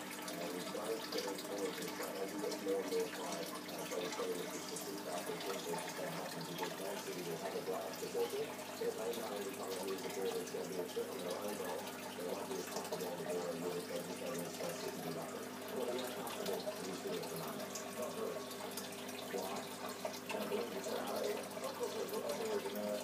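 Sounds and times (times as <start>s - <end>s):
aquarium water trickling: 0.0s - 23.0s.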